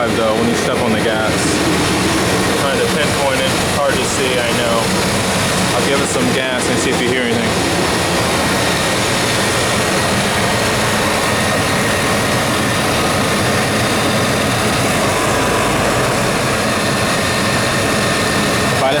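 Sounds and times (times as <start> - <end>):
car engine running loudly: 0.0 - 19.0.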